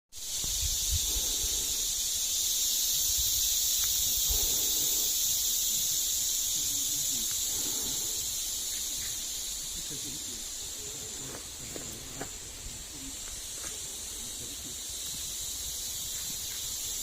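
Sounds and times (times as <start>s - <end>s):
cicadas buzzing: 0.1s - 17.0s.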